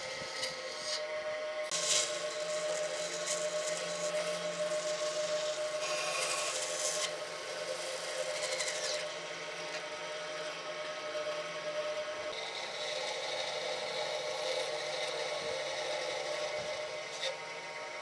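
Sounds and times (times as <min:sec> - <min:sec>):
electric power tool on wood: 0:00.0 - 0:18.0.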